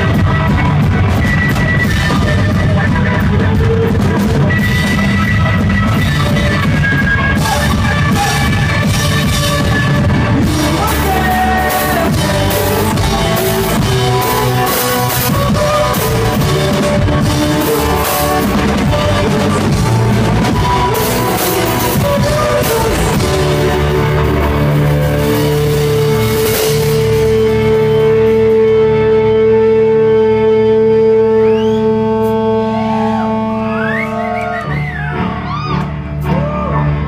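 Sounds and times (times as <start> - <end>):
electric guitar: 0.0 - 37.0.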